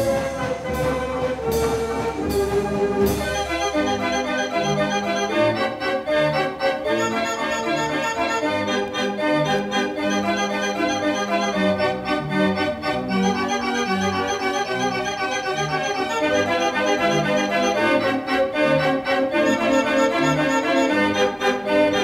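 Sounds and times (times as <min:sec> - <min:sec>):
instrumental music with chords and bass: 0:00.0 - 0:22.0.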